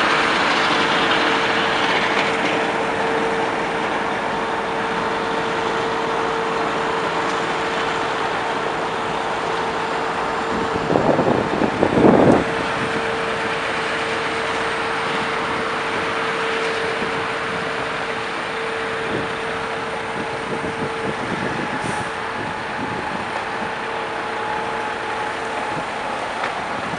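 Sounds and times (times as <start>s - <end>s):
constant hum: 0.0s - 26.9s
vehicle engines rumbling: 0.0s - 26.9s.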